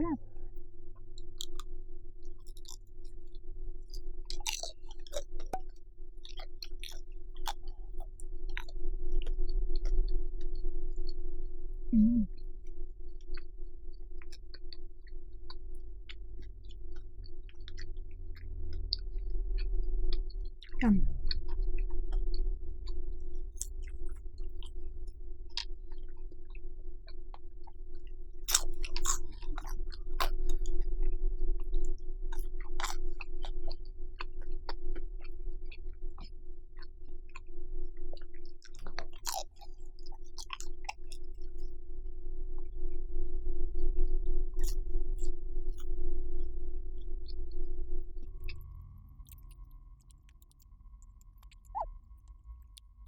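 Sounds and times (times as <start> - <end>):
low hum: 0.0 - 53.0
close-miked chewing: 0.4 - 11.2, 13.0 - 41.7, 44.6 - 45.9, 48.1 - 53.0.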